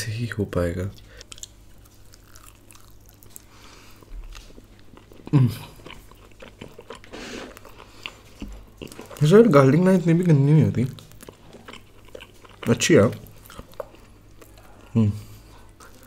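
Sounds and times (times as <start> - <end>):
close chewing with wet mouth sounds: 0.9 - 16.0.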